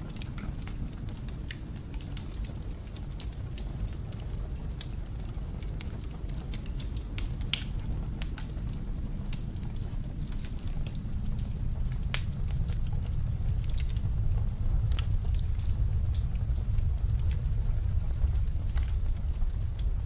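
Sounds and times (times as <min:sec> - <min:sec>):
blizzard wind rumble: 0:00.0 - 0:20.0
wood fire crackling and popping: 0:00.0 - 0:20.0.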